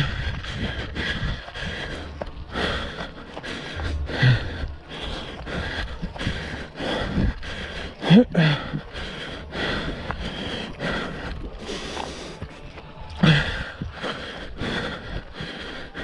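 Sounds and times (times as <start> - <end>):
hard rapid breathing: 0.0 - 16.0.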